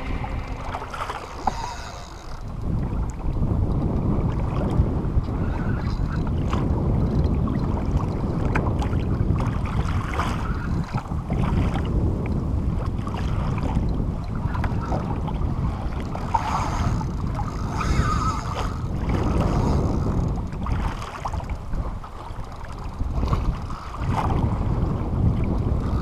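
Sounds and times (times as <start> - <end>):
water lapping against kayak hull: 0.0 - 26.0
wind rumbling on microphone: 0.0 - 26.0.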